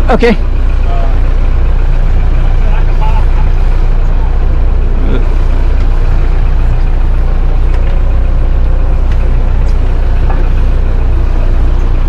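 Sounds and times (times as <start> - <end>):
boat engines idling: 0.0 - 12.0.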